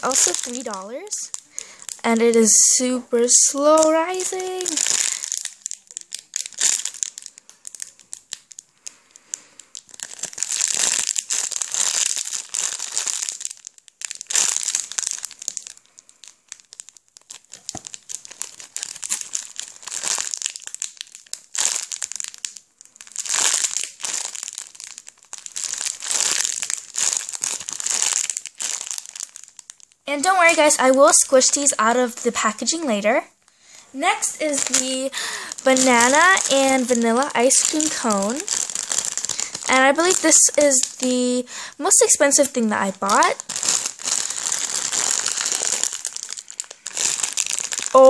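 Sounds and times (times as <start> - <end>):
plastic packaging crinkling: 0.0 - 48.0.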